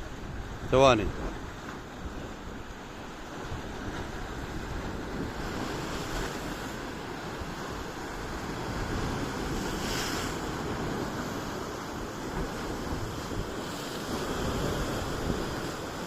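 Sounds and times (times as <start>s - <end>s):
wind buffeting microphone: 0.0s - 16.0s
sea surf washing onto beach: 0.5s - 16.0s.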